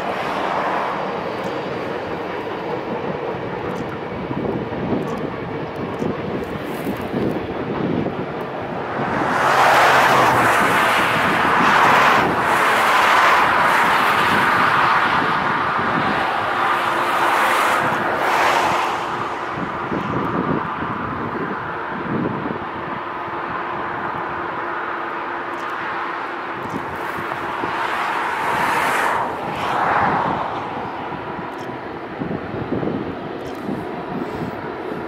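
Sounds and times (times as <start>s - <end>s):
road vehicle passing by: 0.0s - 2.4s, 6.5s - 22.1s, 23.5s - 35.0s.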